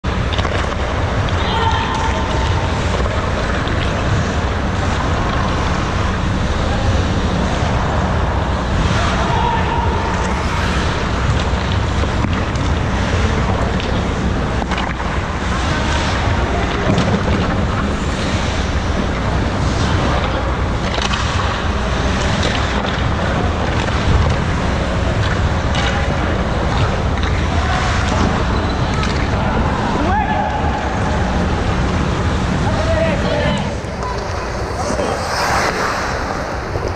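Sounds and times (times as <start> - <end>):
ice rink rushing noise: 0.1 - 36.9.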